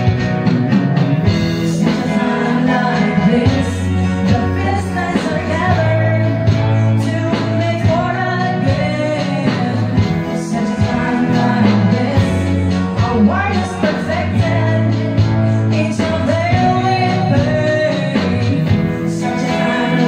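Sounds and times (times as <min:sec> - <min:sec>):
guitar: 0:00.0 - 0:20.0
steady bass line: 0:00.0 - 0:20.0
two women singing gospel: 0:01.6 - 0:20.0.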